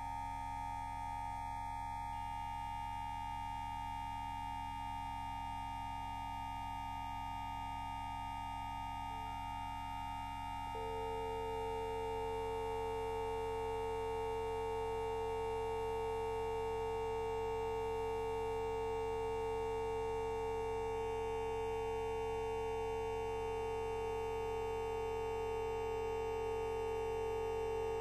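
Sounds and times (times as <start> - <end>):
droning hum of held tones: 0.0 - 28.0.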